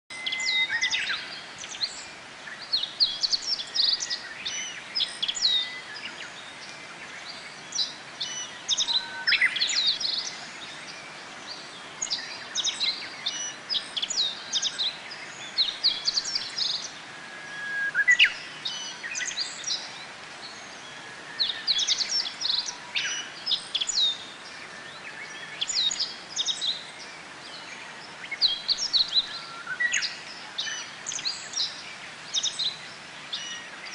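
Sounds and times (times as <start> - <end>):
bird twittering song: 0.1 - 33.9.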